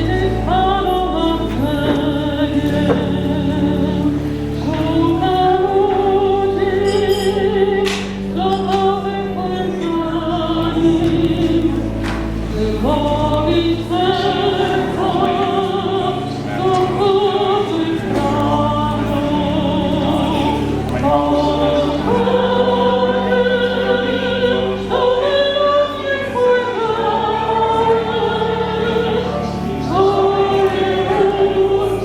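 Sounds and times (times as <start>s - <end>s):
choir singing a hymn: 0.0s - 32.0s
sustained low accompanying notes: 0.0s - 32.0s.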